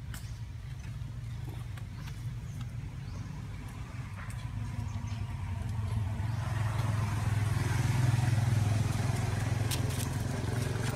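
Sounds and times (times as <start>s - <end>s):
vehicle engine droning: 0.6s - 10.9s.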